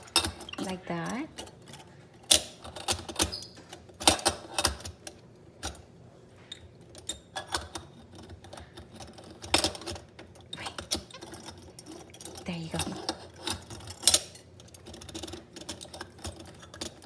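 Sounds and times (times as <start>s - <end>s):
metal clicks and clanks: 0.0s - 5.8s, 6.9s - 17.0s.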